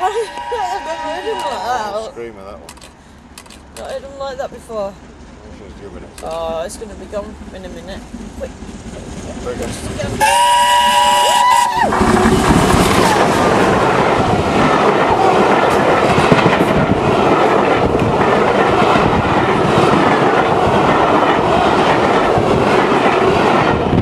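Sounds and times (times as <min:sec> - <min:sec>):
steam locomotive passing: 0:00.0 - 0:24.0
train wheels clacking over joints: 0:00.0 - 0:24.0.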